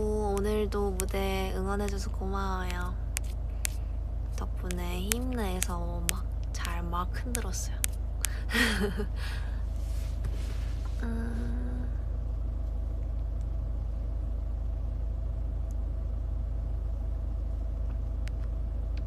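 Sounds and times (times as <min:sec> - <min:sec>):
low rumble inside car cabin: 0:00.0 - 0:19.0.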